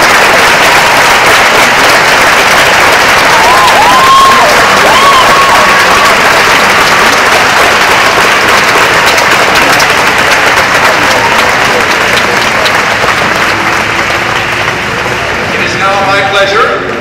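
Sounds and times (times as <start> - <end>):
large crowd applauding: 0.0 - 17.0.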